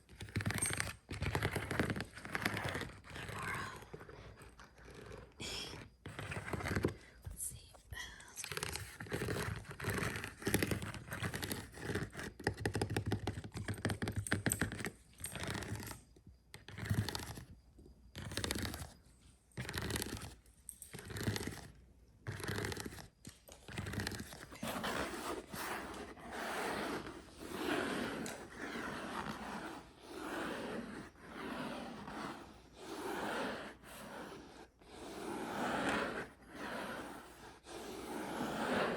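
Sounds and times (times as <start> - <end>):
scratching on a dog toy: 0.0 - 7.2, 8.4 - 38.9.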